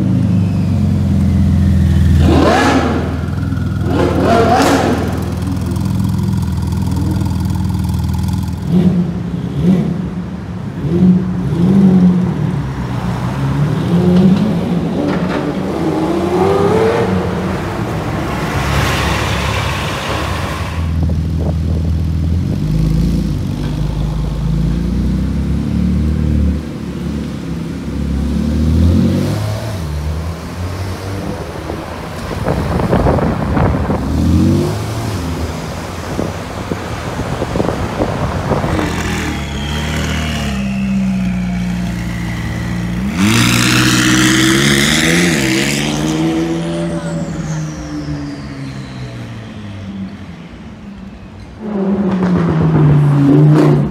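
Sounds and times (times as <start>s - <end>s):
sports car engines revving: 0.0s - 53.9s.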